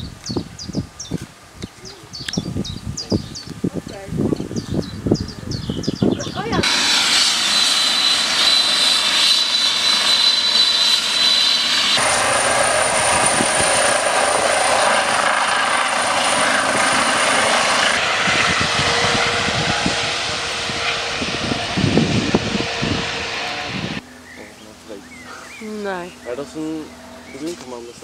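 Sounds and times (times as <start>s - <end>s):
helicopter turbine and rotor: 0.0s - 28.0s.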